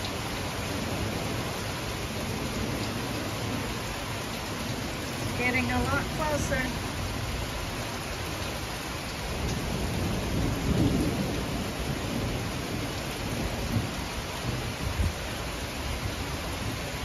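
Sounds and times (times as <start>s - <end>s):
heavy rain falling: 0.0s - 17.0s
low rumble of thunder: 0.0s - 17.0s.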